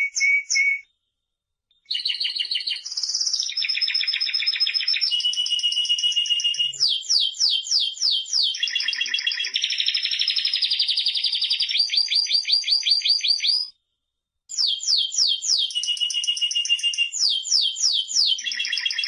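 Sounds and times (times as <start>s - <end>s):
canary singing: 0.0s - 0.8s, 1.9s - 13.7s, 14.5s - 19.0s.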